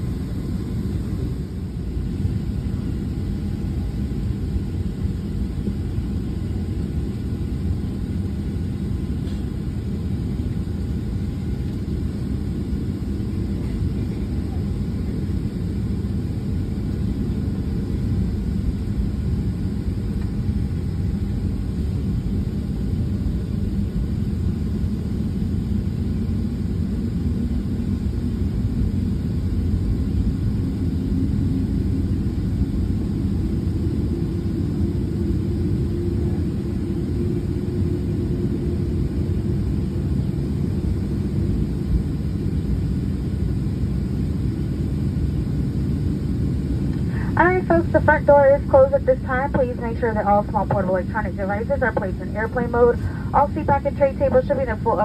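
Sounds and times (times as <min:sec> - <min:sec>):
airliner cabin rumble and hum: 0:00.0 - 0:55.0
faint steady whine: 0:00.0 - 0:55.0.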